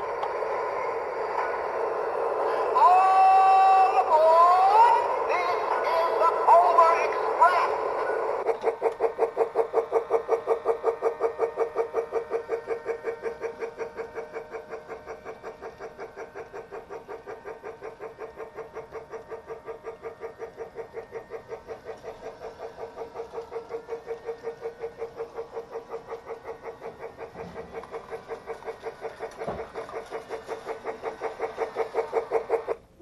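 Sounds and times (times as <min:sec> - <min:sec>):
toy train electronic pulsing: 0:00.0 - 0:33.0.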